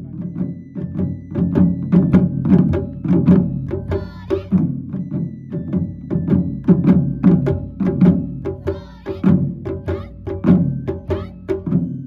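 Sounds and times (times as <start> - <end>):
taiko drums beating: 0.0 - 12.0.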